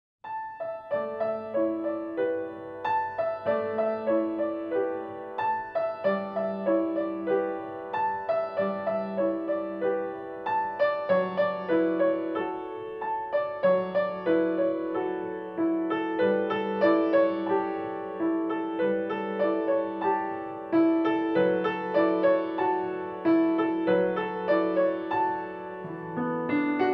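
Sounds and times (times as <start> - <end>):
gentle piano music: 0.2 - 26.9.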